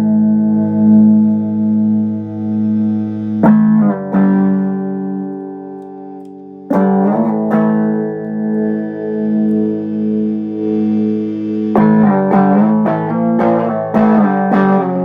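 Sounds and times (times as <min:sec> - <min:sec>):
electric guitar chords strummed: 0:00.0 - 0:15.0.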